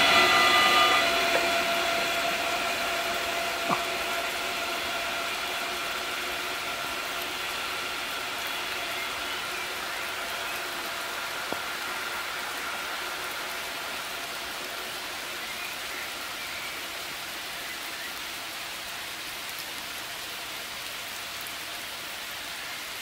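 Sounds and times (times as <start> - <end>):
faint train passing: 0.0 - 23.0
rain hissing on foliage: 0.0 - 23.0.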